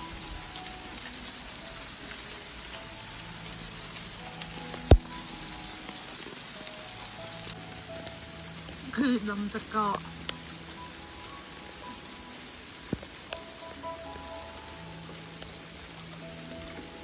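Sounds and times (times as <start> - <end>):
rain and hail on a deck: 0.0 - 17.0.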